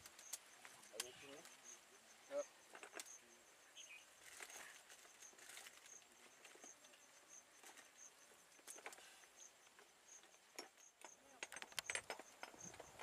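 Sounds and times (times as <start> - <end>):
high insect chirp: 0.0 - 13.0.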